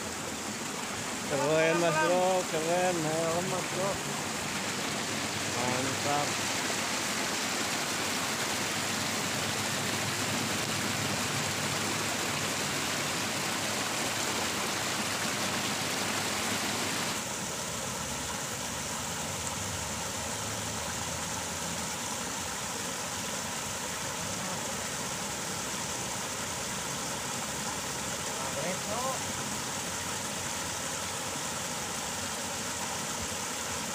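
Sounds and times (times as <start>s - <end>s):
water rushing in a ditch: 0.0s - 33.9s
water spilling over a weir: 0.0s - 33.9s.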